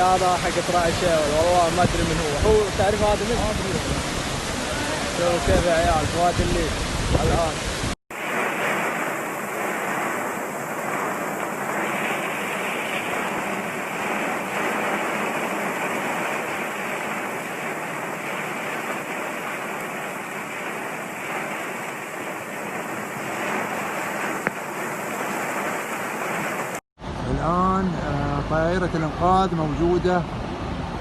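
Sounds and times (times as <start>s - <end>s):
floodwater rushing: 0.0s - 27.6s.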